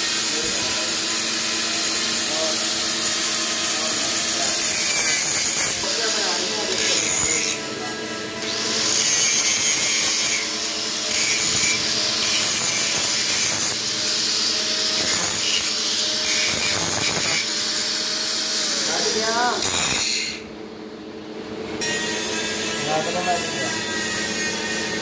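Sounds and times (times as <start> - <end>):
angle grinder grinding metal: 0.0 - 20.5, 21.8 - 25.0.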